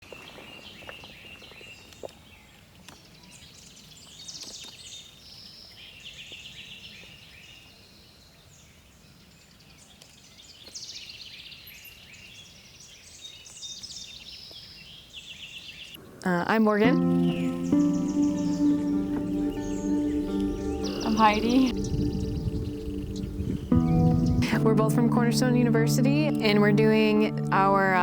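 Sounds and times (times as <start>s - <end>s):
wild birds singing: 0.1s - 28.0s.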